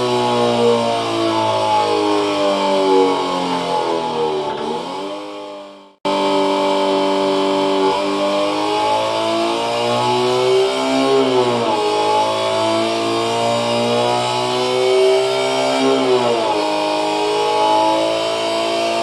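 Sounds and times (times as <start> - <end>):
synthesized engine revving: 0.0 - 19.0.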